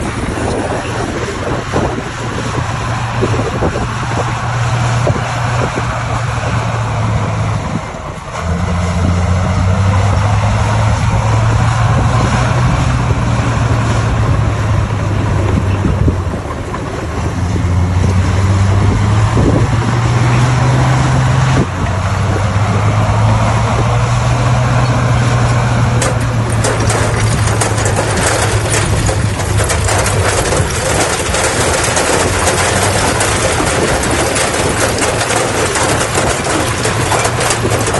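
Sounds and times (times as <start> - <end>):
dense rattling clatter: 0.0 - 6.7, 9.8 - 37.9
bulldozer diesel engine running: 0.0 - 37.9.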